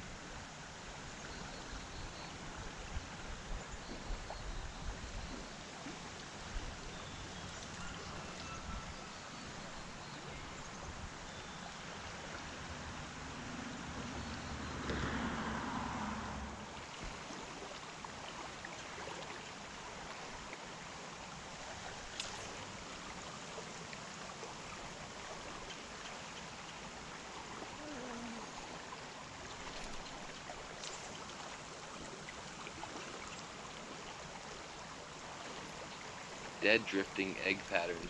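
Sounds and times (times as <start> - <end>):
creek water flowing: 0.0 - 38.0.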